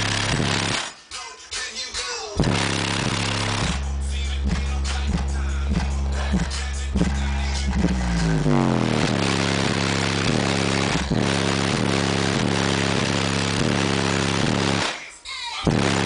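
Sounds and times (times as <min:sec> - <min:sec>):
bass-heavy music through subwoofers: 0:00.0 - 0:16.0.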